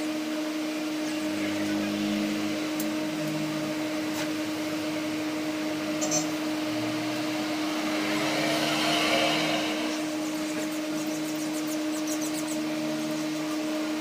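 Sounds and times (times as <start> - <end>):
electric machine humming: 0.0 - 14.0.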